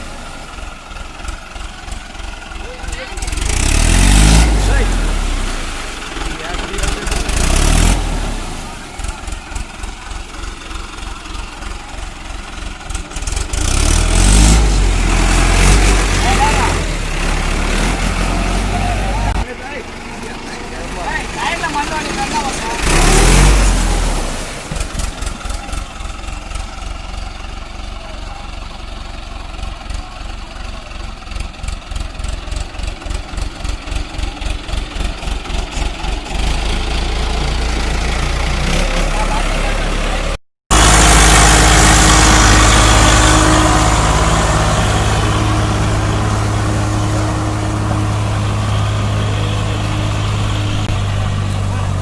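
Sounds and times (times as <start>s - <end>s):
tractor diesel engine revving: 0.0s - 52.0s.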